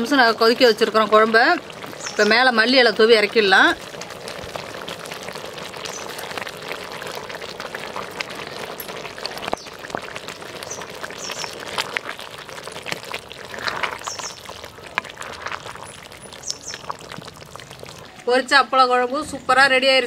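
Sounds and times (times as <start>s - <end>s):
curry bubbling in pot: 0.0s - 20.0s.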